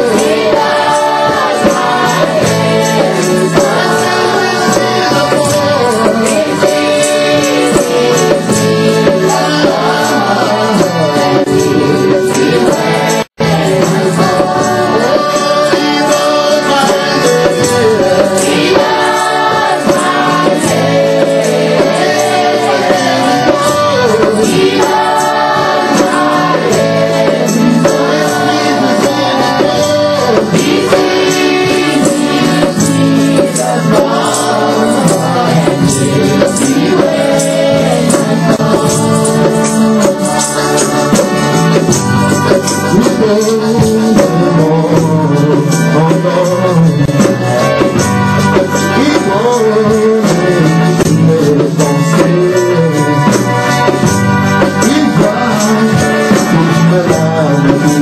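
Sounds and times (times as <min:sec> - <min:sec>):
shaken jingling percussion: 0:00.0 - 0:58.0
voices singing worship music: 0:00.0 - 0:58.0.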